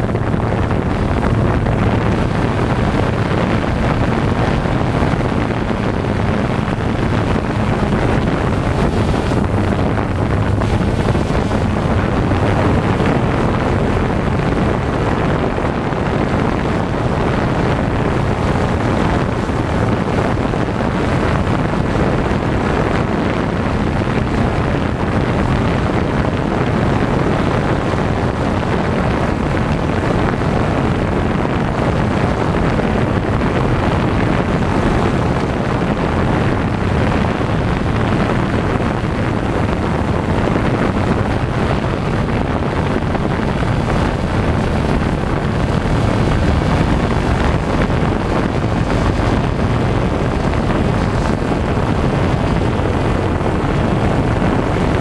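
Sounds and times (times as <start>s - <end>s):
drone motors and propellers: 0.0s - 28.2s, 29.0s - 55.0s
wind noise on microphone: 0.0s - 55.0s.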